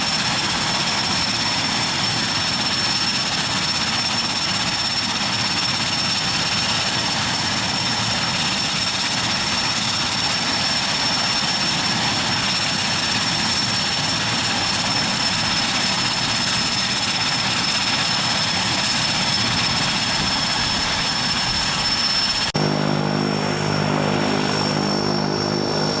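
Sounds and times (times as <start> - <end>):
airplane engine whine: 0.0 - 26.0.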